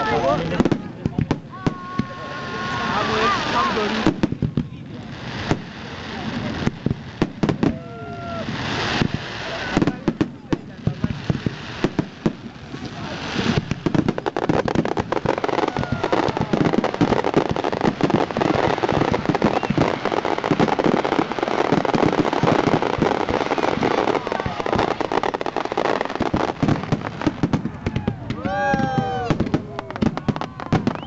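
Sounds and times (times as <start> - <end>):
fireworks bangs and crackle: 0.0 - 31.0.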